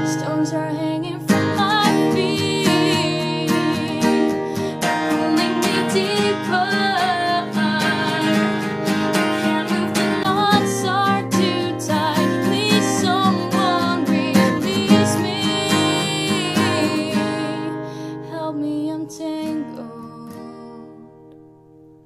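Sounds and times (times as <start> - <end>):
woman singing: 0.0 - 21.2
acoustic guitar strumming: 0.0 - 22.0.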